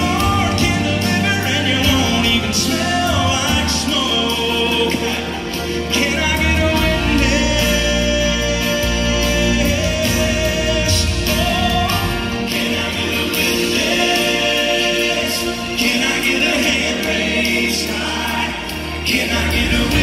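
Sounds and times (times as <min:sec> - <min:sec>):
acoustic guitars: 0:00.0 - 0:20.0
deep bass notes: 0:00.0 - 0:20.0
person singing: 0:00.0 - 0:20.0.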